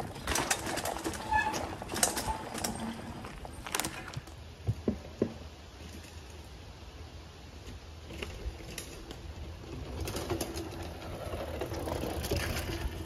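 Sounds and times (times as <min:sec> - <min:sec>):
bike tyres rumbling over stone: 0:00.0 - 0:06.2, 0:08.0 - 0:13.0
bike clicks and rattles: 0:00.0 - 0:06.6, 0:07.6 - 0:13.0.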